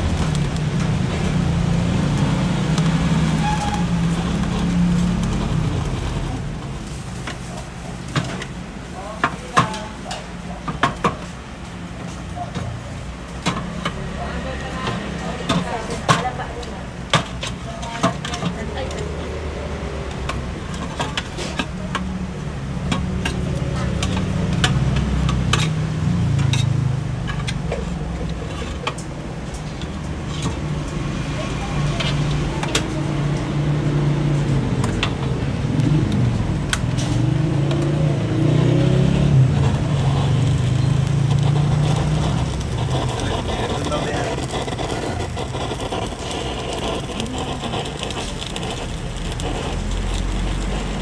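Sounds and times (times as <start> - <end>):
blowtorch flame running: 0.0 - 9.9, 12.8 - 51.0.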